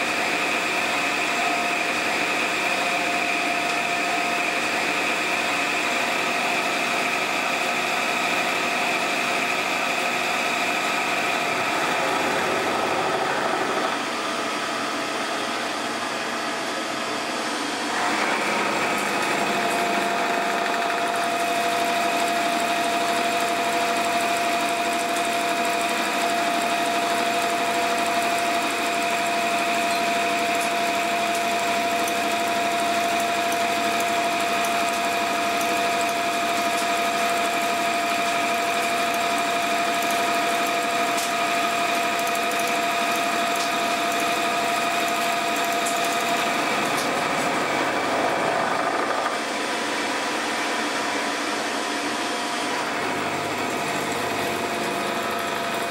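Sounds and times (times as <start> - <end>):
milling machine cutting steel: 0.0 - 14.6, 17.8 - 49.4, 52.7 - 55.9.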